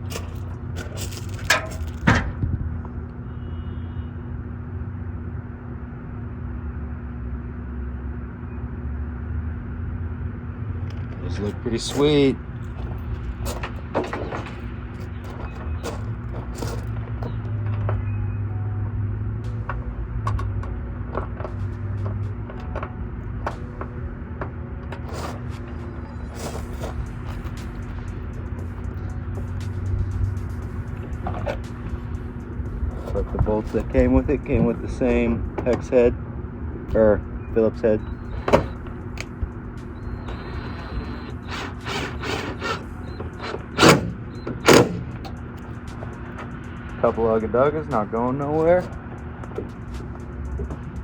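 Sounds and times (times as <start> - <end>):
constant hum: 0.0 - 51.0
steady low rumble: 9.6 - 51.0.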